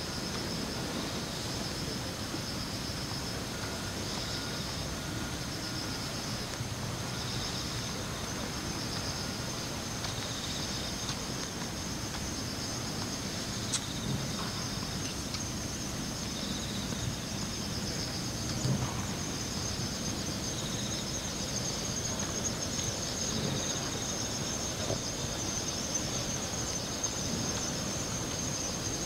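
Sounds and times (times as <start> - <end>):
insects chorus pulsing: 0.0 - 29.0.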